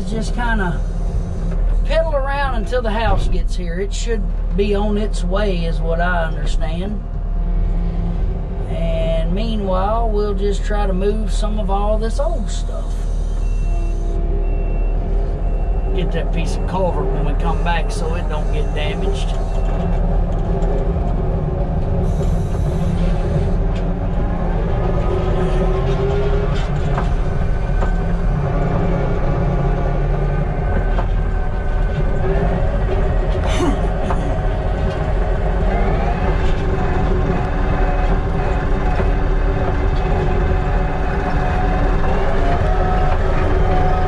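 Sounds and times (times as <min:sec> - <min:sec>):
diesel engine revving: 0:00.0 - 0:44.0.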